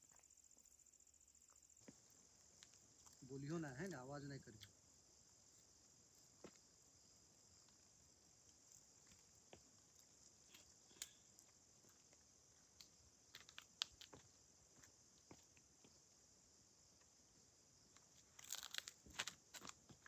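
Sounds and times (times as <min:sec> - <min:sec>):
faint insect chorus: 0:00.0 - 0:20.0.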